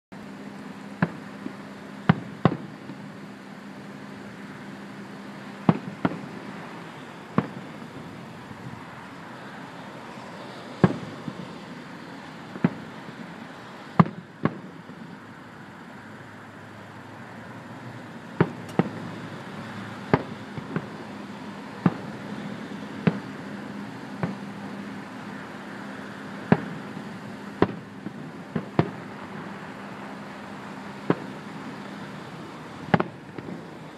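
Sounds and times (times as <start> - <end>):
steady low hum: 0.1 - 33.9
distant fireworks bangs: 0.6 - 15.2, 18.0 - 33.9.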